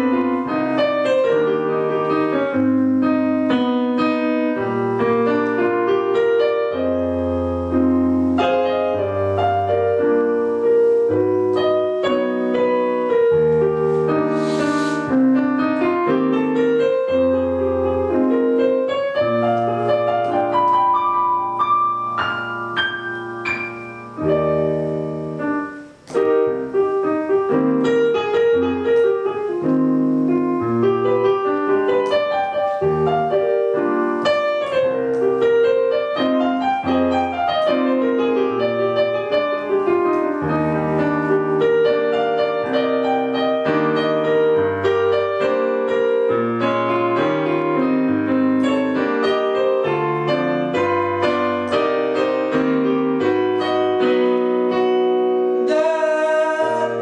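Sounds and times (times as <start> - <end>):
solo piano chords: 0.0 - 57.0.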